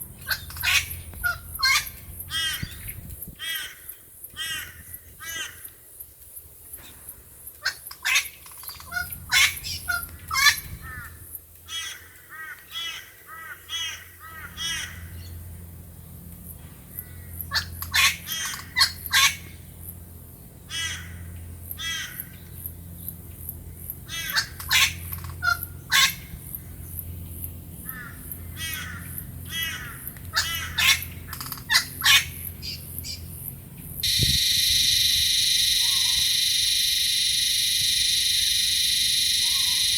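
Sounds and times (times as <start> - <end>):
wild birds calling: 0.0 - 6.0, 6.7 - 37.1, 38.2 - 39.9
low steady hum: 0.0 - 7.6, 8.2 - 39.9.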